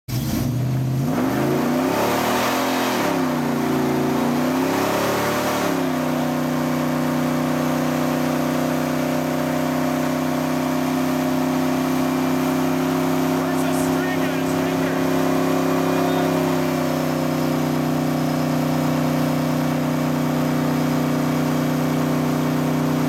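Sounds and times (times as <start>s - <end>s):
truck engine revving: 0.1s - 23.0s.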